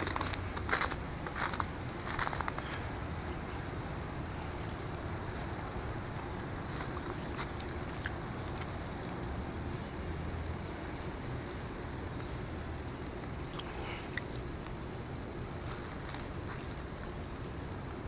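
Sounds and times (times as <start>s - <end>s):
low rumble of snowstorm: 0.0s - 18.0s.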